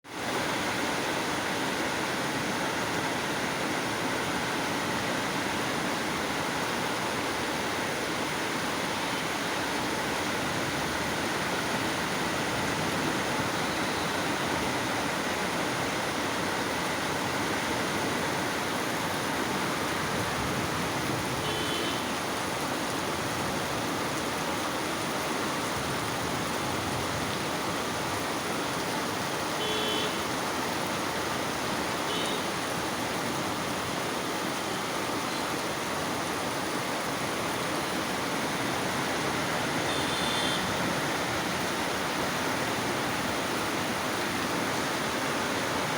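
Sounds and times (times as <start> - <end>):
heavy rain falling: 0.1 - 45.9.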